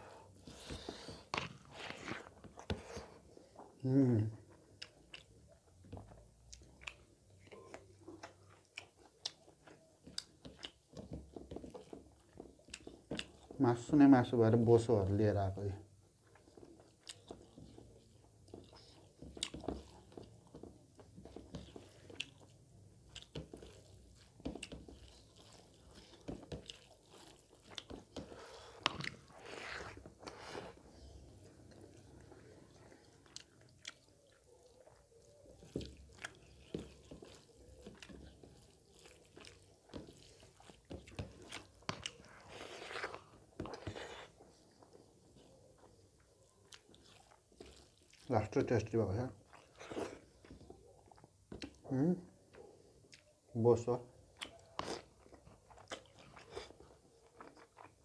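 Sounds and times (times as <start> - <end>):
man chewing with wet smacks: 0.0 - 14.1, 15.7 - 58.0.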